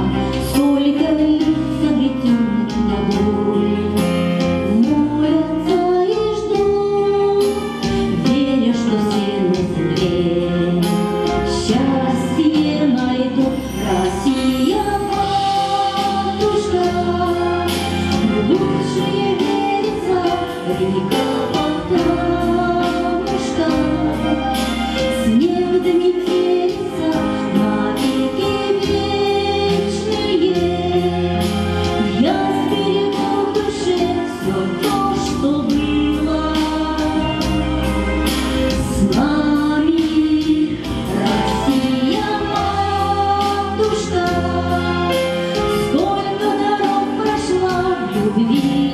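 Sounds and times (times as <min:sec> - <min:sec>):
instrumental accompaniment: 0:00.0 - 0:48.9
woman singing pop song: 0:00.0 - 0:48.9.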